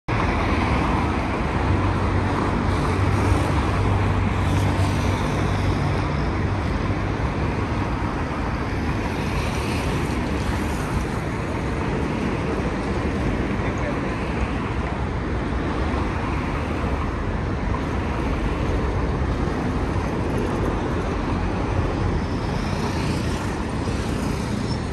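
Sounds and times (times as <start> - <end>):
passing vehicles: 0.1 - 24.9.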